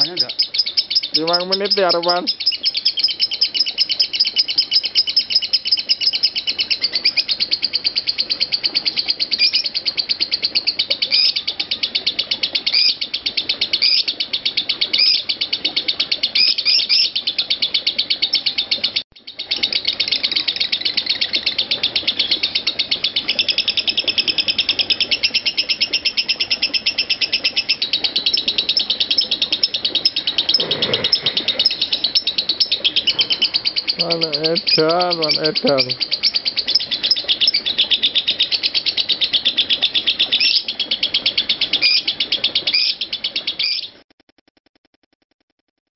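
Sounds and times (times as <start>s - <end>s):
lovebird chattering: 0.0s - 44.0s.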